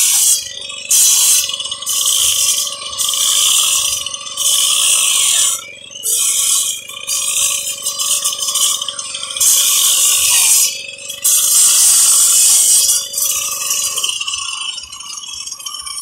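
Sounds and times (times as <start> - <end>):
angle grinder cutting concrete: 0.0 - 16.0.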